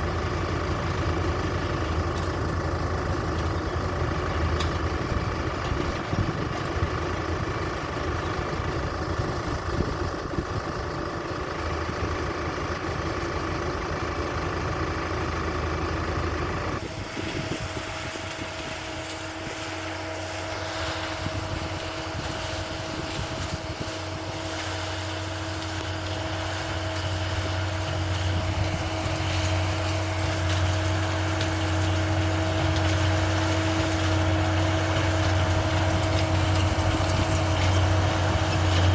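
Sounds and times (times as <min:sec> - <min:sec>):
tractor and baler engine drone: 0:00.0 - 0:38.9.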